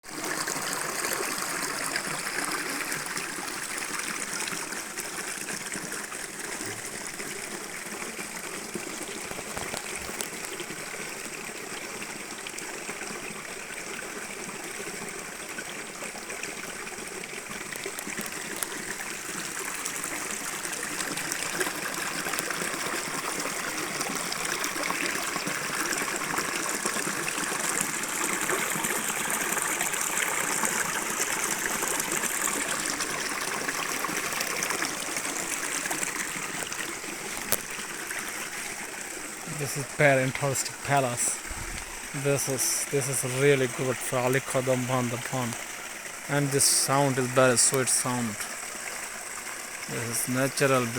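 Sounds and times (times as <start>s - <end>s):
waterfall pouring and splashing: 0.0s - 50.9s.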